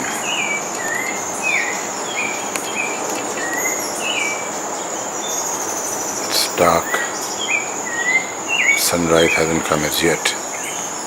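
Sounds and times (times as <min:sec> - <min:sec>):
birds whistling: 0:00.0 - 0:11.0
high-pitched insect drone: 0:00.0 - 0:11.0.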